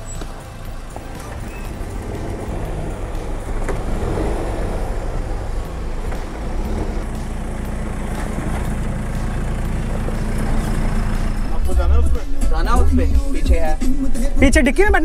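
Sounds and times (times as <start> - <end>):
suv engines running at low revs: 0.0 - 14.4.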